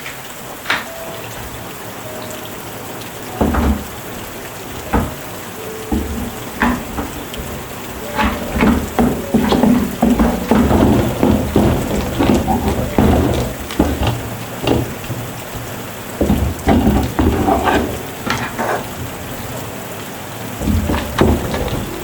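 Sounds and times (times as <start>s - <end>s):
rain falling: 0.0s - 22.0s
irregular knocks: 0.6s - 22.0s.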